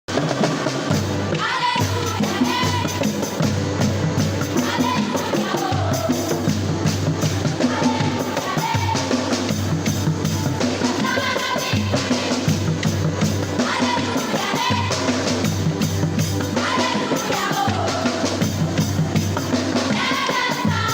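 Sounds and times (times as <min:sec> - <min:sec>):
busy drum kit: 0:00.1 - 0:20.9
gospel melody: 0:00.1 - 0:20.9.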